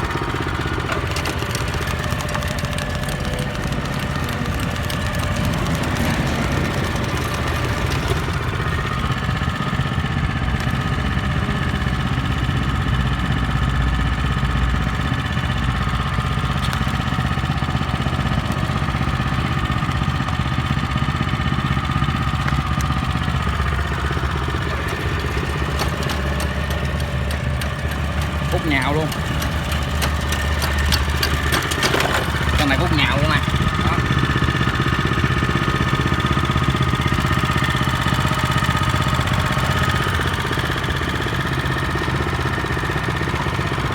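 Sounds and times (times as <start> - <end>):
tiller engine running: 0.0 - 43.9.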